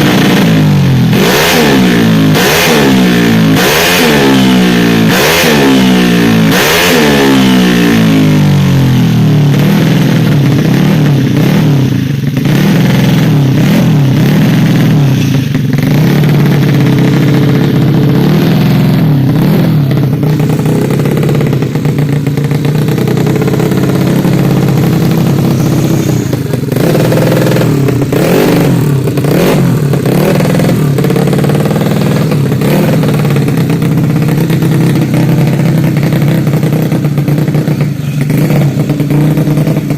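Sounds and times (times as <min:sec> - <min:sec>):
scooter engine revving and idling: 0:00.0 - 0:39.9.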